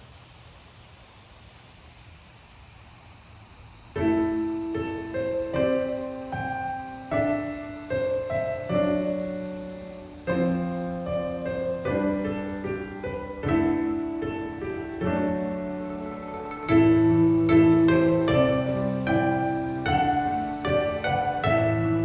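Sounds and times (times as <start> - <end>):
faint hiss: 0.0 - 22.0
slow solo piano chords: 4.0 - 22.0.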